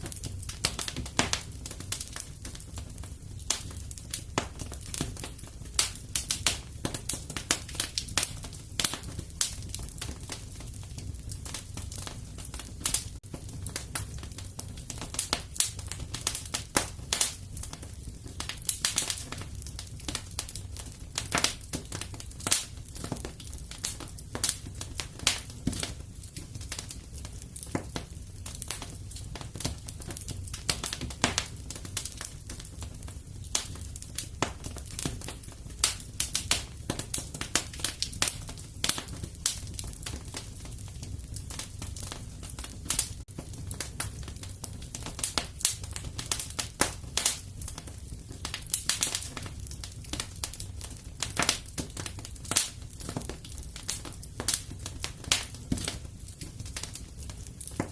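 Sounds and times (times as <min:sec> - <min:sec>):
fire rumbling: 0:00.0 - 0:57.9
logs crackling and popping: 0:00.0 - 0:57.9.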